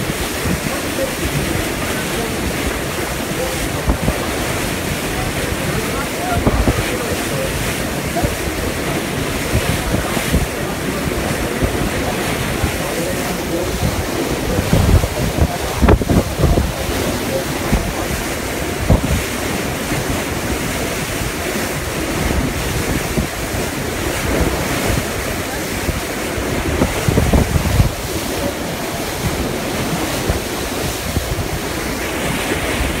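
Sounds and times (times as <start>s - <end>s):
river water rushing: 0.0s - 33.0s
wind buffeting microphone: 0.0s - 33.0s.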